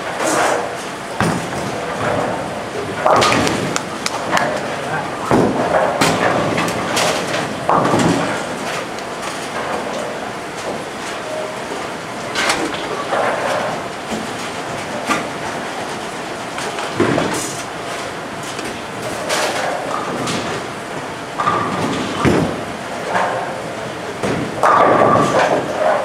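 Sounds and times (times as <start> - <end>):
bowling balls rumbling: 0.0 - 26.0.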